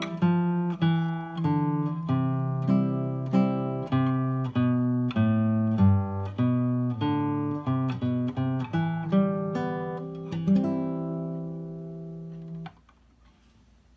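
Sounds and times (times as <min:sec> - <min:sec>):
fingerstyle classical guitar: 0:00.0 - 0:12.8.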